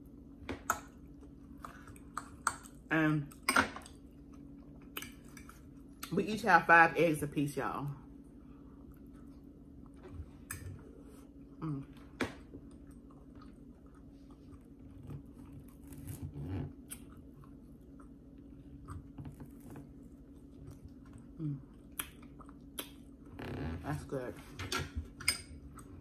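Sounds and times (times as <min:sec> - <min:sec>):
person chewing food: 0:00.0 - 0:06.1, 0:08.1 - 0:23.7.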